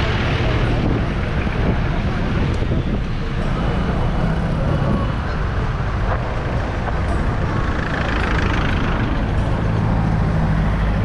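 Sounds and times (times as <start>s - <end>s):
low engine rumble: 0.0s - 11.0s
street traffic: 0.0s - 11.0s.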